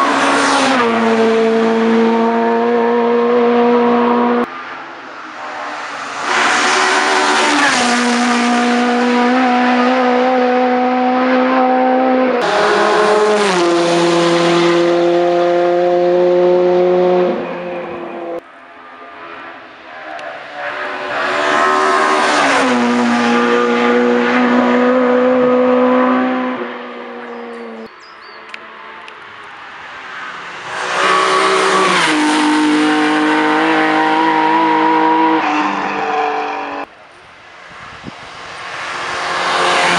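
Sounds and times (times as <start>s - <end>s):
race cars passing at full throttle: 0.0s - 39.9s.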